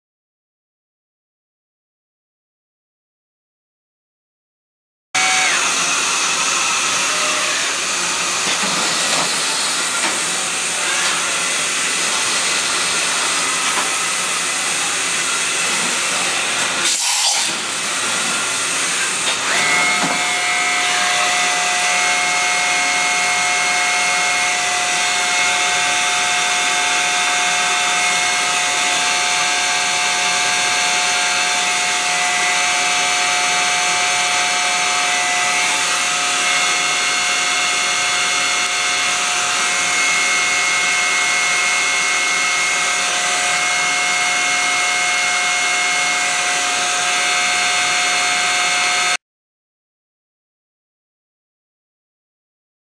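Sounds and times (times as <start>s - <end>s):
machining center hissing and whining: 5.2s - 49.1s
high-pitched spindle whine: 5.2s - 49.2s.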